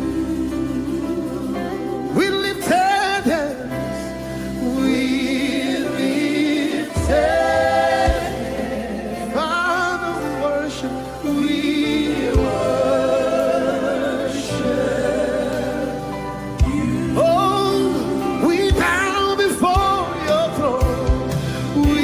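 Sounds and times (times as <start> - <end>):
choir singing gospel song: 0.0 - 22.0.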